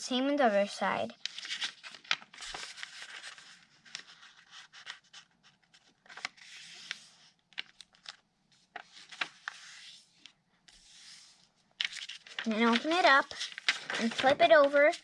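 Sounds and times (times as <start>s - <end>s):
paper rustling as it is folded: 0.1s - 15.0s
sharp paper crackles: 1.1s - 10.0s, 11.8s - 15.0s.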